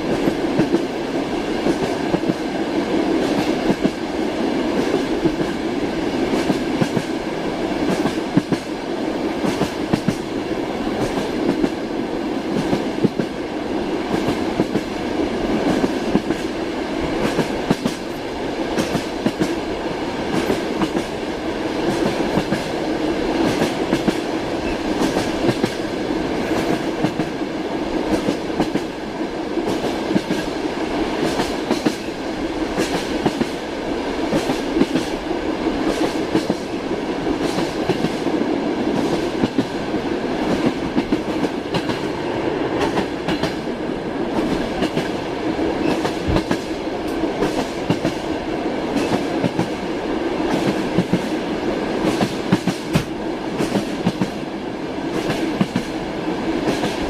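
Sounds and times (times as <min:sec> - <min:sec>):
train wheels clattering over rails: 0:00.0 - 0:13.4, 0:14.0 - 0:27.4, 0:28.0 - 0:29.0, 0:29.6 - 0:49.8, 0:50.4 - 0:56.0, 0:56.6 - 0:57.0.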